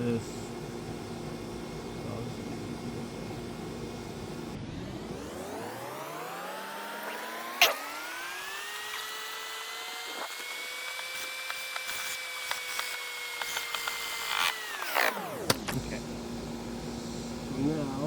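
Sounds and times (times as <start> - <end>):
small electric motor whining: 0.0 - 18.0.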